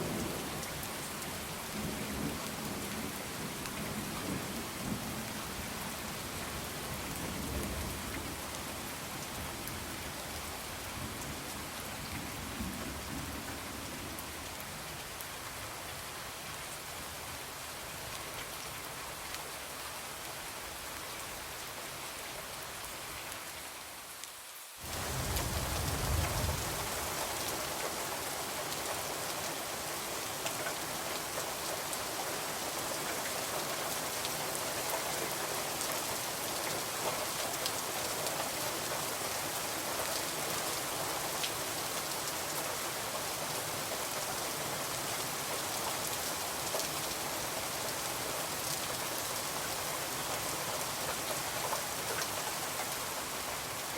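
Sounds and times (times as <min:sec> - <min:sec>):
rain on a window: 0:00.0 - 0:53.9.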